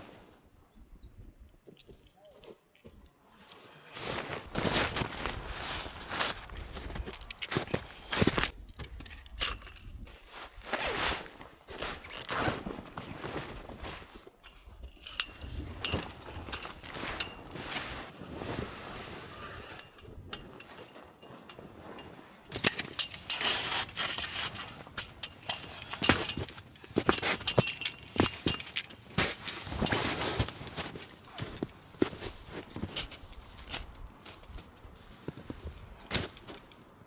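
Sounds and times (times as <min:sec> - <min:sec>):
crunching in snow: 0:03.5 - 0:08.5, 0:10.1 - 0:14.4, 0:15.2 - 0:36.7
camping gear clinking: 0:03.9 - 0:37.0.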